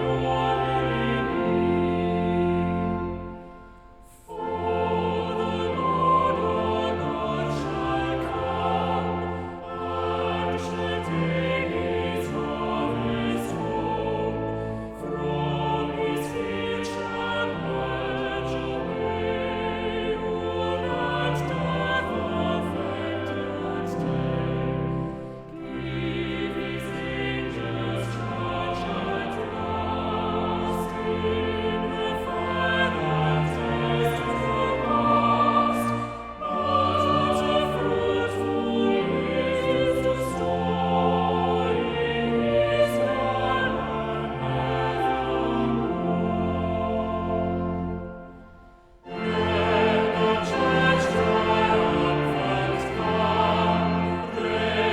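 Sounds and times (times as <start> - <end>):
choir singing a hymn: 0.0 - 54.9
instrumental accompaniment: 0.0 - 54.9.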